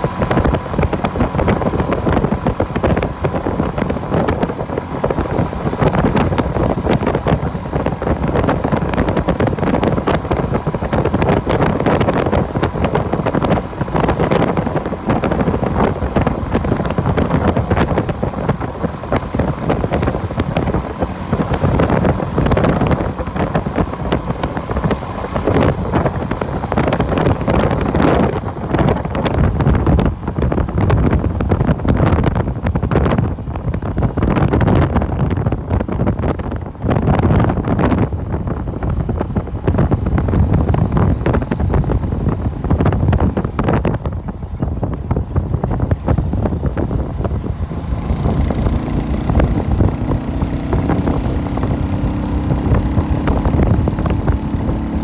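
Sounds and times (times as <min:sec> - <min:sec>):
motorbike engine running: 0:00.0 - 0:55.0
wind buffeting microphone: 0:00.0 - 0:55.0.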